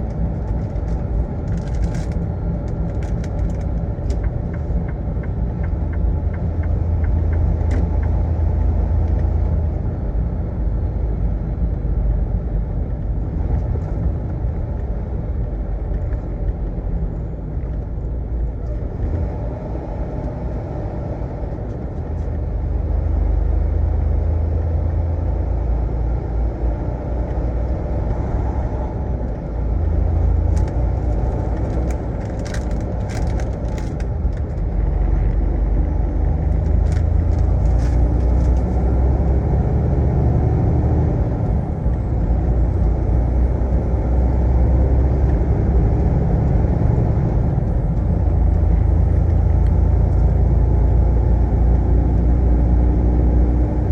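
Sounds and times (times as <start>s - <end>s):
heavy truck engine and road rumble: 0.0s - 53.9s.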